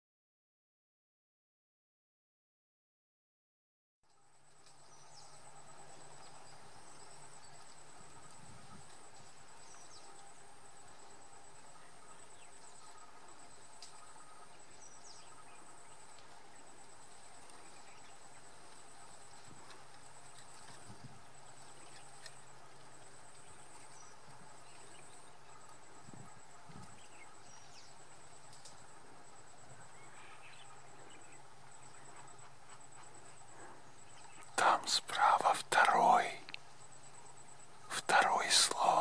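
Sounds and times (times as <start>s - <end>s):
insects trilling: 4.1s - 39.0s
faint chirps: 4.2s - 39.0s.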